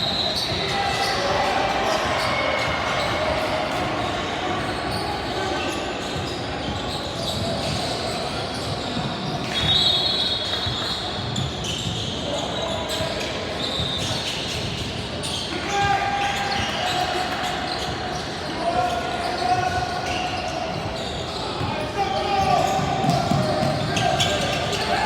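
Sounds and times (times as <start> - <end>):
voices in echoing hall: 0.0 - 25.0.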